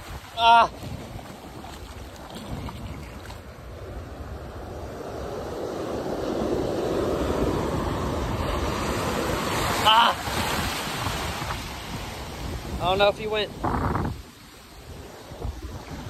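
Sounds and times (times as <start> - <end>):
surf washing over sand: 0.0 - 16.0
wind buffeting microphone: 0.0 - 16.0.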